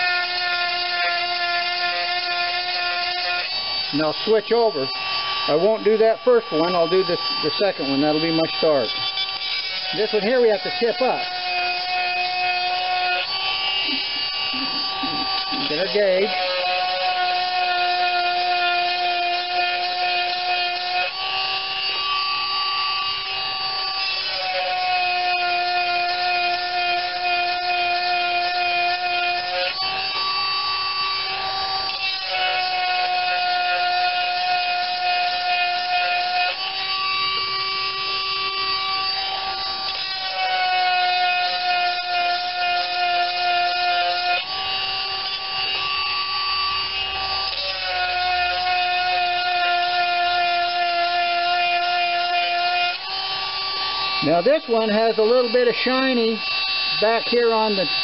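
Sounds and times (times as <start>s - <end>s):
chainsaw sharpener grinding whine: 0.0s - 58.0s.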